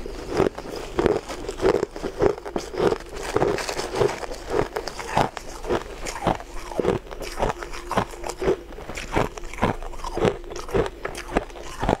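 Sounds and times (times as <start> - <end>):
shaved ice being chewed: 0.0 - 12.0.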